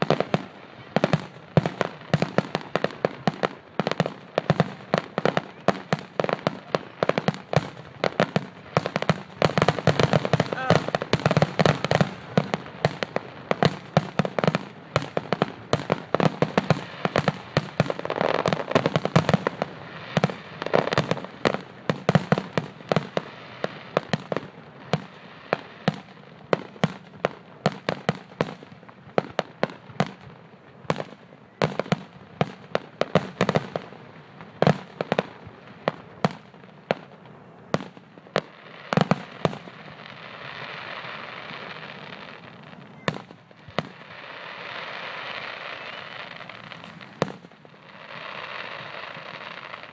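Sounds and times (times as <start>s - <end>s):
firework booms: 0.0s - 49.9s
firework crackle: 0.0s - 49.9s.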